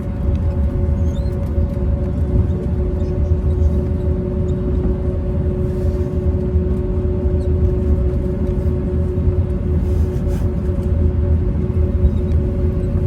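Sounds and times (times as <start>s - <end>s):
airplane cabin rumble: 0.0s - 13.0s
steady hum tones: 0.0s - 13.0s.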